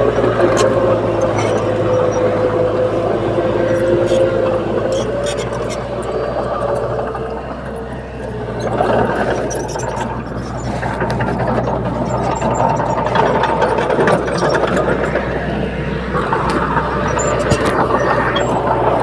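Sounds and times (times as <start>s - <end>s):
bulldozer diesel engine: 0.0s - 19.0s
machinery rattling and clicking: 0.0s - 19.0s.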